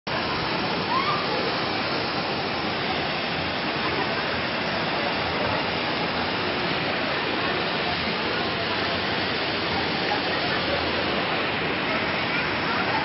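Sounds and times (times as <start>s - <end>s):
fountain water splashing into pool: 0.1s - 13.0s.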